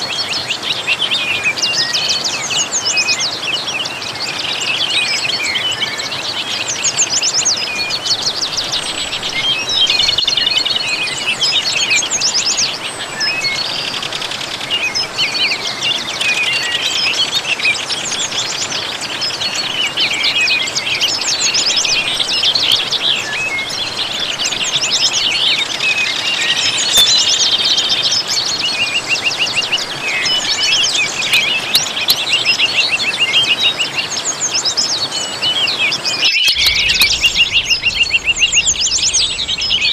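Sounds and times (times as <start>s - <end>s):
small birds chirping and twittering: 0.0s - 39.9s
waterfall rushing: 3.5s - 35.0s, 35.6s - 39.9s.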